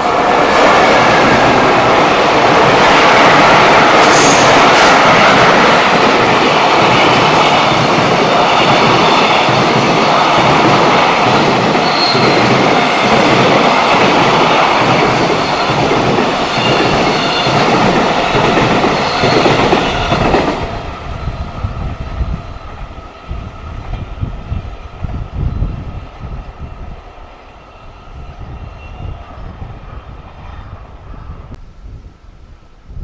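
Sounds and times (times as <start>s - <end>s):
freight train passing: 0.0s - 31.6s
wind buffeting microphone: 0.0s - 33.0s
wheels squealing on rails: 0.5s - 23.8s, 24.5s - 31.5s.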